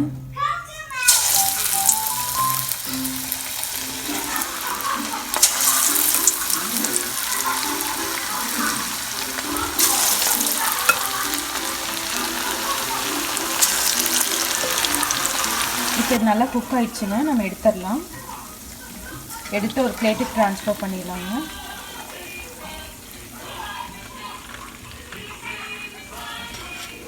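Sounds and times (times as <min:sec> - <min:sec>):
chicken deep-frying in oil: 0:01.0 - 0:27.0.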